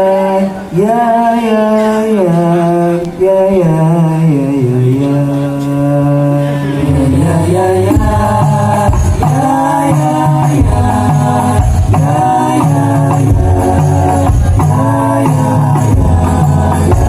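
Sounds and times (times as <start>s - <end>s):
men singing: 0.0s - 17.0s.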